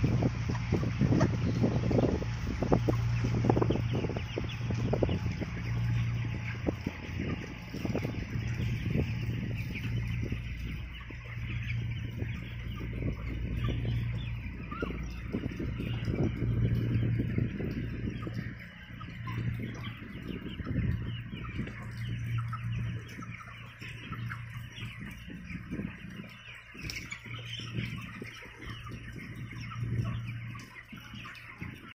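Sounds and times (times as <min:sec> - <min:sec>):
chickens chirping and clucking: 0:00.0 - 0:32.0
low hum: 0:00.0 - 0:32.0.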